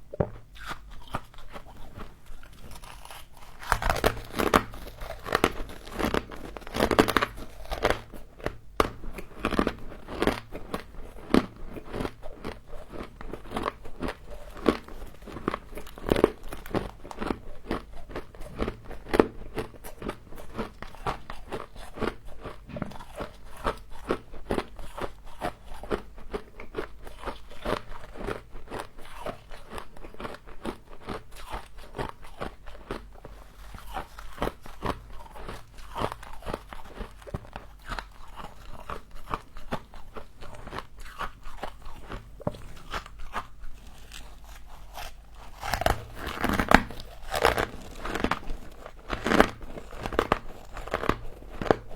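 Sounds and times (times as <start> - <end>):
frost being bitten and chewed: 0.2 - 51.9.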